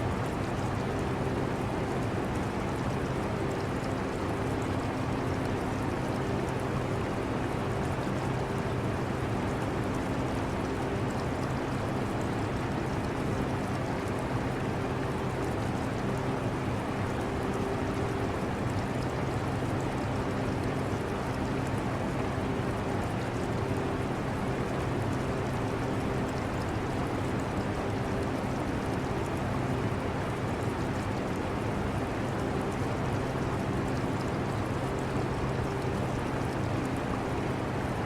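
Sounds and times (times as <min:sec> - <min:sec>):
aquarium water trickling: 0:00.0 - 0:38.0.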